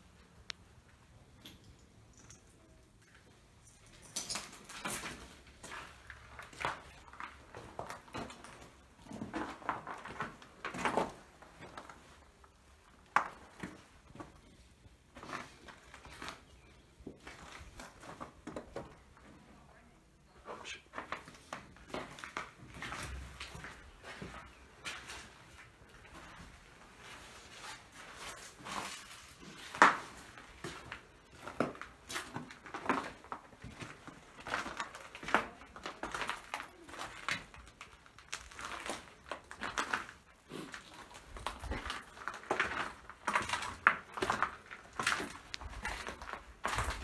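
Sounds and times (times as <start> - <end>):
footsteps crunching over debris: 4.0 - 19.2, 21.0 - 47.0.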